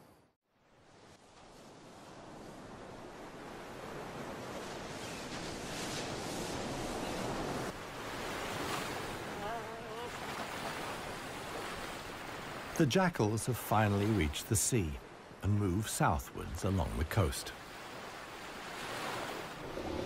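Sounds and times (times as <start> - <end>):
ocean surf breaking on beach: 0.6 - 20.0.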